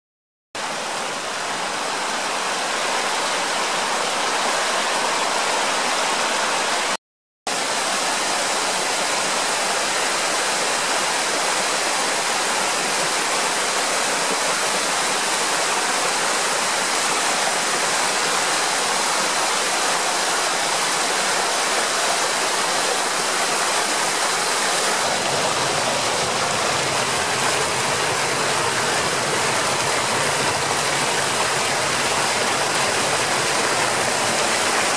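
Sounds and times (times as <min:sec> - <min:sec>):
waterfall rushing: 0:00.6 - 0:34.9.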